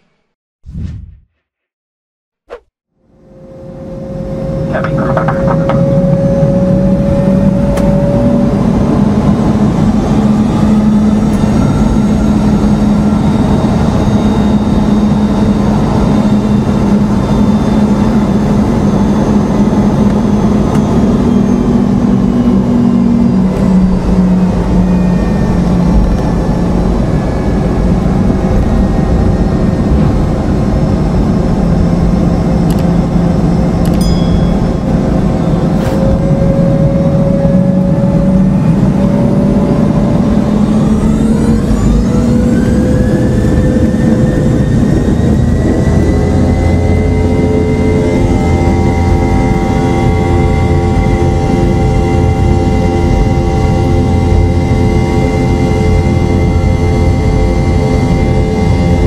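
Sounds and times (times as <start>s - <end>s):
jet engines roaring: 3.2s - 59.0s.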